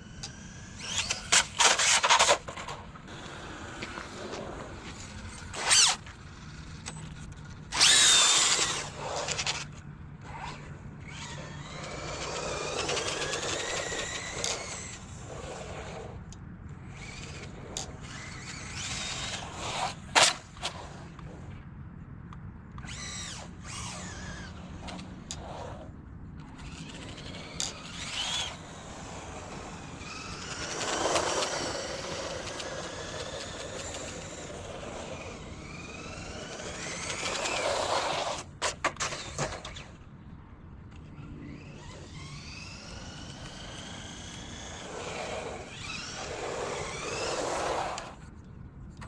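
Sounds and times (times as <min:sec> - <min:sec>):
electric motor whining: 0:00.0 - 0:02.3, 0:07.7 - 0:21.3, 0:22.8 - 0:39.9, 0:41.4 - 0:48.2.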